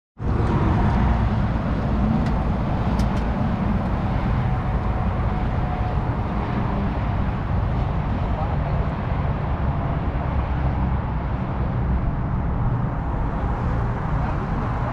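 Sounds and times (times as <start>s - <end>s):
vehicle rumbling in motion: 0.2s - 14.9s.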